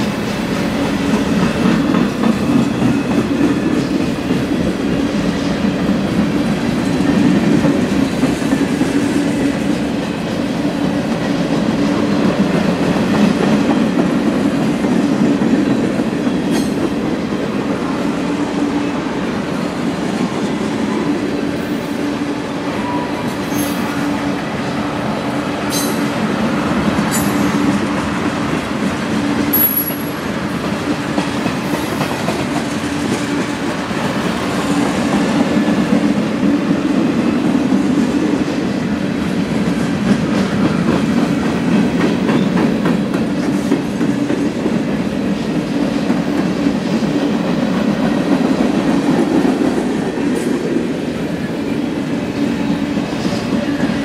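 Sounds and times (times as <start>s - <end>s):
freight cars rumbling on rails: 0.0s - 54.0s.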